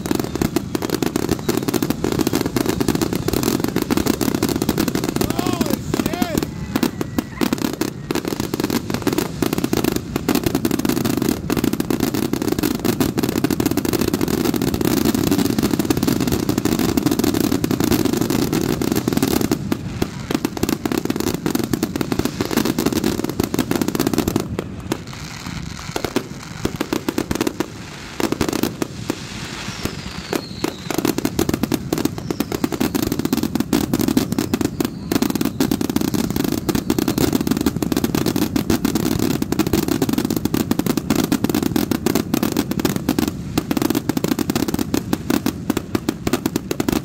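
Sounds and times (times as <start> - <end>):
fireworks bangs and crackle: 0.0 - 47.0.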